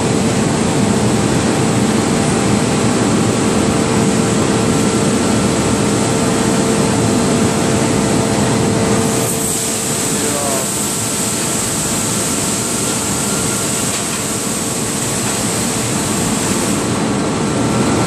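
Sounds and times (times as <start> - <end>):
constant machine hum: 0.0 - 18.0.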